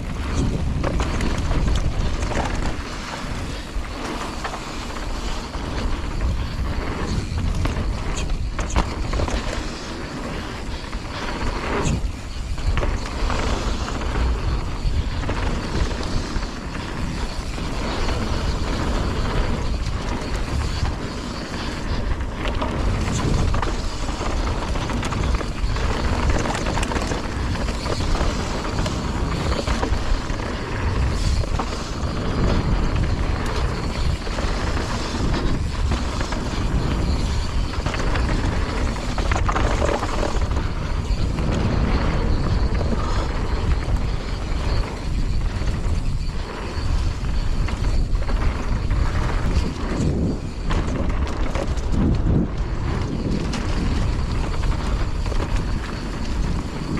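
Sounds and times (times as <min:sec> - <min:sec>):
mountain bike rattling: 0:00.0 - 0:56.9
wind buffeting microphone: 0:00.0 - 0:56.9.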